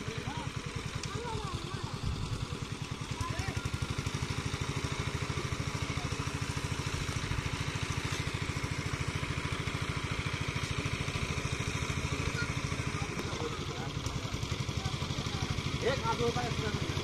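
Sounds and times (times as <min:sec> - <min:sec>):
small pump engine running: 0:00.0 - 0:17.0.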